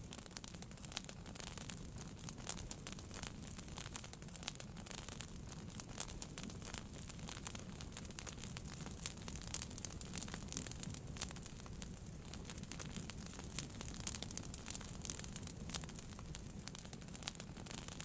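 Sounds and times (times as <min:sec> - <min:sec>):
low fire rumble: 0:00.0 - 0:18.0
wood fire crackling and popping: 0:00.0 - 0:18.0.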